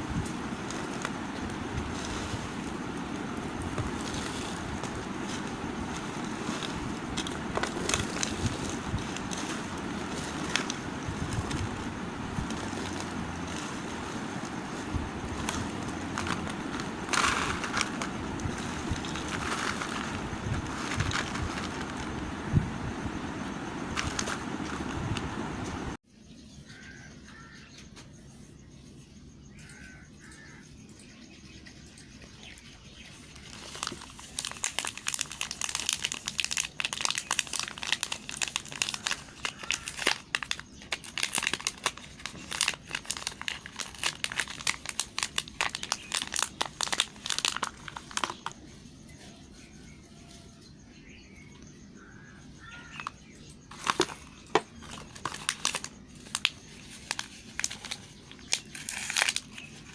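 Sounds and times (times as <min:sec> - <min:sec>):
plastic wrapper crinkling: 0:00.2 - 0:25.9, 0:33.1 - 0:48.6, 0:52.7 - 0:59.9.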